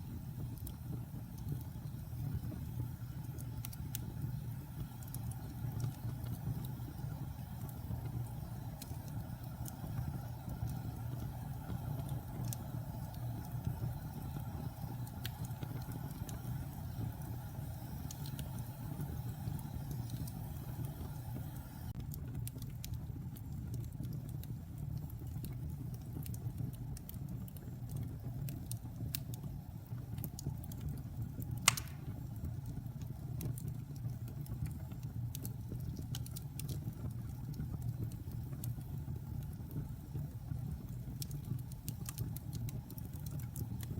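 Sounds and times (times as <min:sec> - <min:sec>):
fire crackling and popping: 0:00.0 - 0:43.9
fire roaring: 0:00.0 - 0:43.9.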